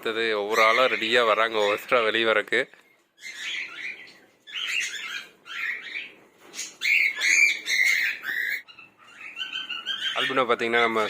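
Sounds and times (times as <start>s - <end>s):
cockatiels calling: 0.4s - 2.3s, 3.2s - 11.0s.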